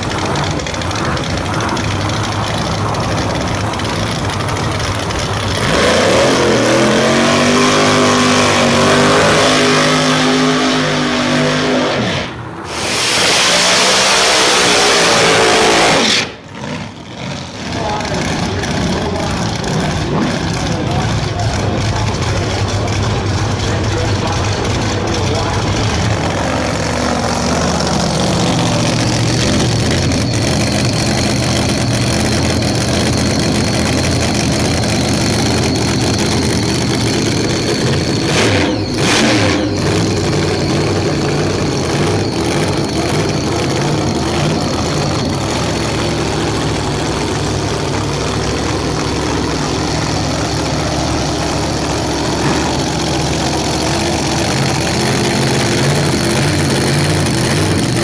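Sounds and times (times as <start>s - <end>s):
drag car engine idling roughly: 0.0s - 58.0s.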